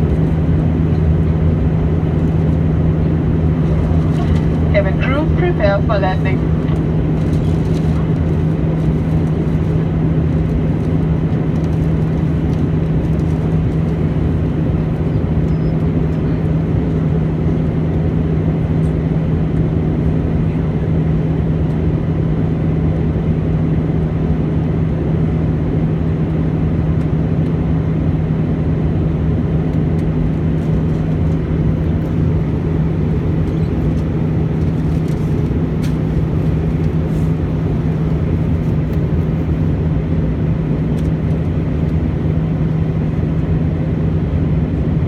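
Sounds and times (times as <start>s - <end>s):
aircraft cabin engine and airflow noise: 0.0s - 45.0s.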